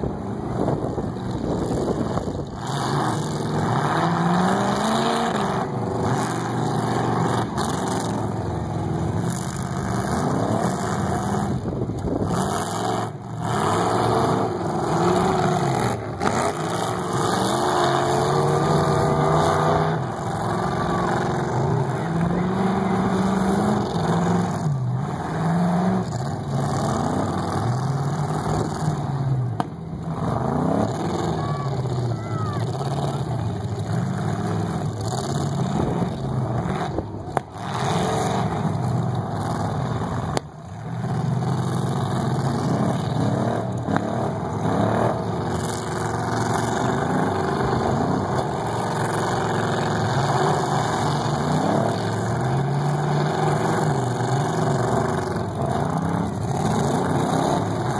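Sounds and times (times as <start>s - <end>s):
car engines revving: 0.0s - 57.9s
cars ramming each other: 0.0s - 57.9s.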